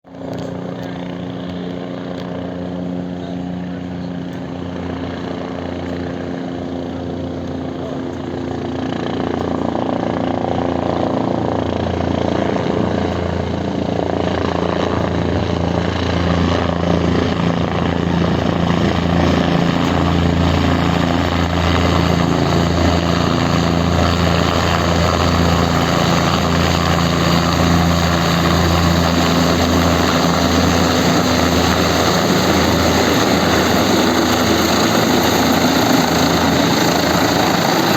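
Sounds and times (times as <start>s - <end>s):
helicopter rotor beat: 0.0s - 37.9s
helicopter turbine whine: 0.0s - 37.9s.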